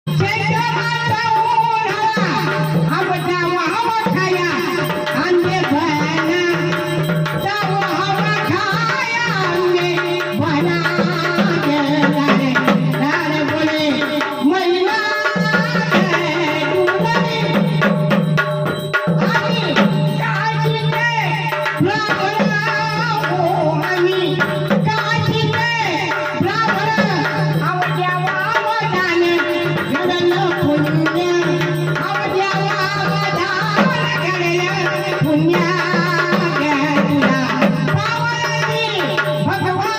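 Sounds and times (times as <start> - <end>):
drum accompaniment: 0.0 - 39.9
woman singing: 0.1 - 18.2, 19.0 - 39.9.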